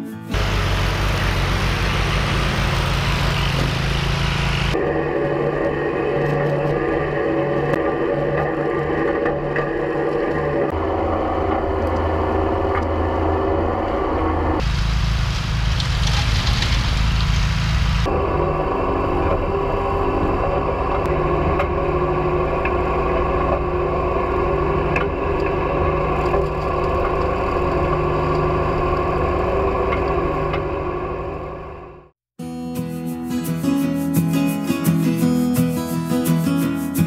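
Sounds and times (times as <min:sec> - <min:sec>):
brush mower engine and cutting: 0:00.3 - 0:31.8
tractor engine running: 0:00.3 - 0:32.1.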